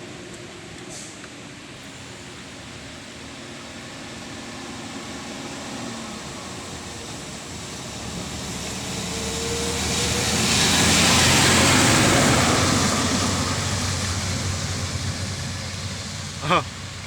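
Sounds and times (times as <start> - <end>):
truck diesel engine running: 1.8 - 17.0
tyres hissing through water: 1.8 - 17.0.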